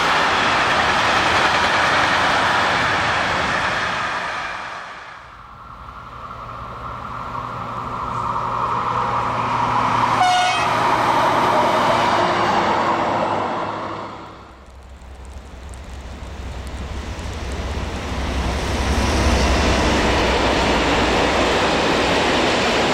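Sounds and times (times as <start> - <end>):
rail vehicle passing: 0.0 - 22.9.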